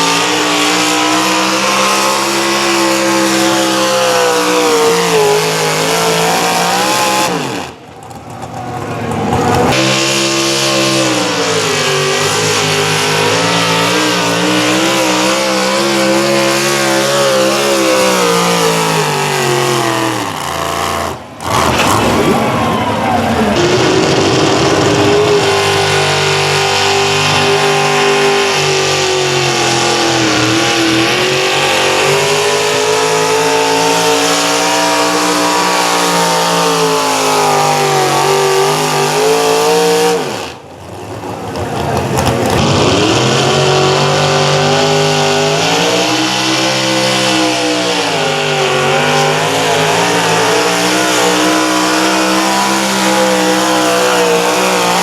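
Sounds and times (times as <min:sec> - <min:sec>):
tractor engine running hard: 0:00.0 - 0:55.0.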